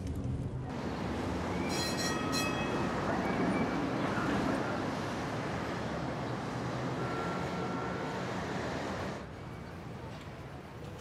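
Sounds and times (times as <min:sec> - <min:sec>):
tram running noise: 0:00.0 - 0:11.0.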